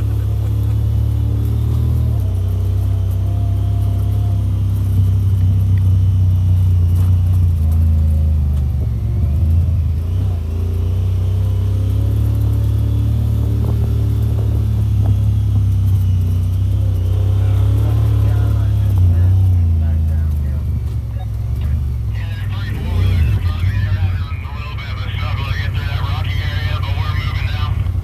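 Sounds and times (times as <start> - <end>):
off-road vehicle engine drone: 0.0 - 28.0.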